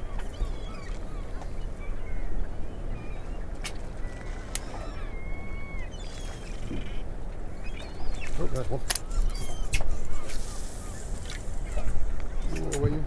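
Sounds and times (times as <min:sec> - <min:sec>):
seagulls calling: 0:00.0 - 0:13.0.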